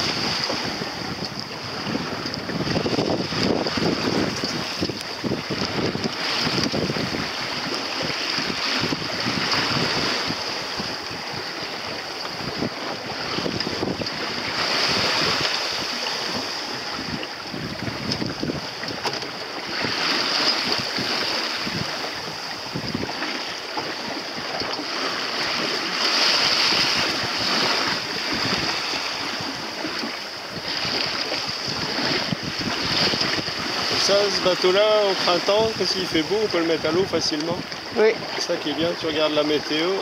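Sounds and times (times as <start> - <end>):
water rushing along boat hull: 0.0 - 40.0
wind buffeting microphone: 0.0 - 40.0.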